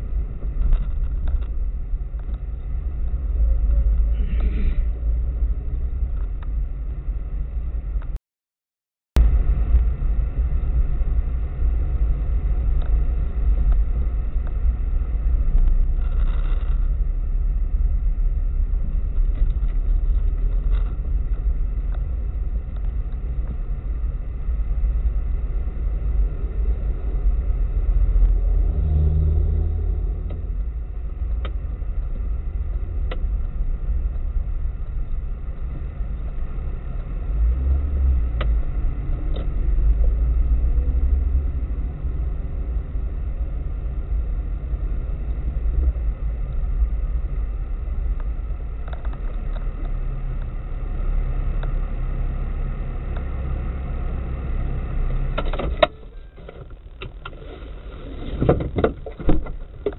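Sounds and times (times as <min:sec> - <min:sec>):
car engine and road rumble: 0:00.0 - 0:08.2, 0:09.2 - 0:59.9.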